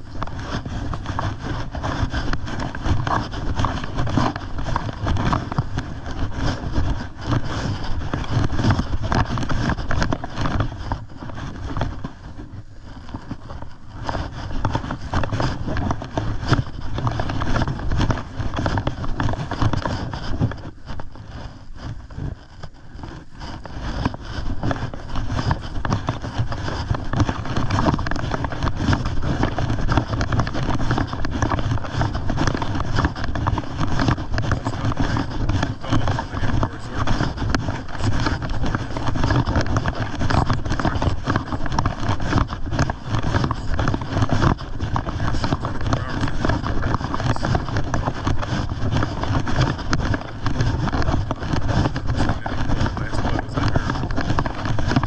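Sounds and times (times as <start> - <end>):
footsteps: 0.0 - 55.0.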